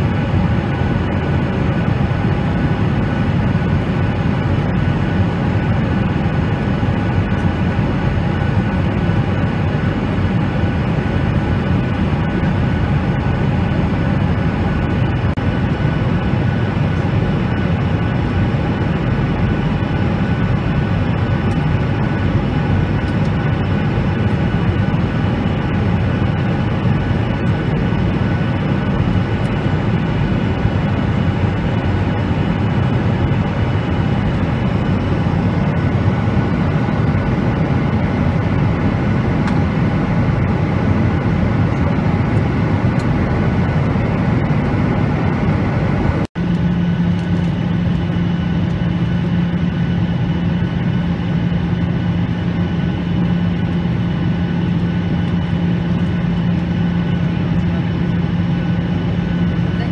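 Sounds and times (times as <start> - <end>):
jet engines and airflow rushing: 0.0 - 59.9.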